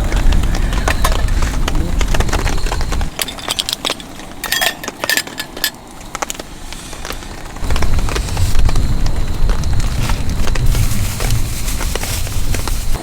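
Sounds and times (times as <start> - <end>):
camping gear clicking and clinking: 0.0 - 13.0
gusting wind buffeting microphone: 0.0 - 13.0.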